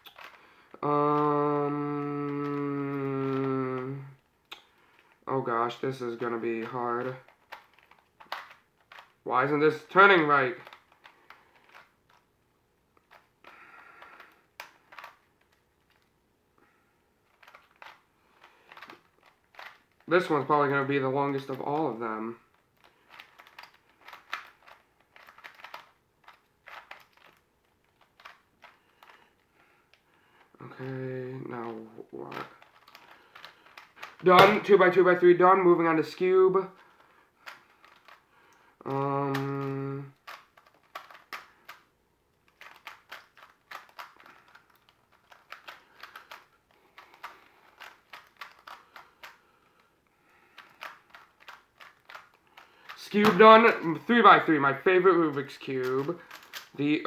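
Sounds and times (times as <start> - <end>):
puzzle cube clicking: 0.0 - 12.3, 13.0 - 16.2, 17.3 - 57.0.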